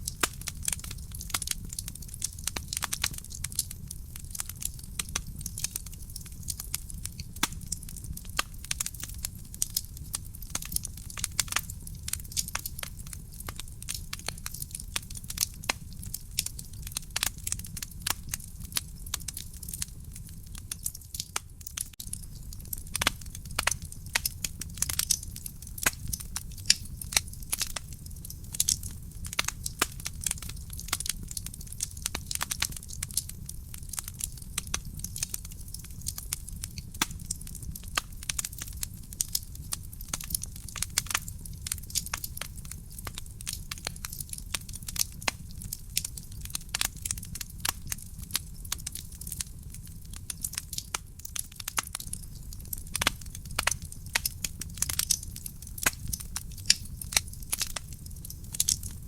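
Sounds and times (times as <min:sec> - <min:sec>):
wood fire crackling in a fireplace: 0:00.0 - 0:59.0.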